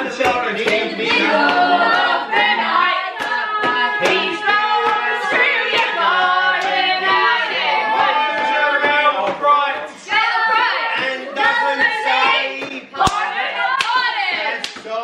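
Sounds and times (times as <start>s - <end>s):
group singing together: 0.0s - 15.0s
hand claps: 0.0s - 15.0s.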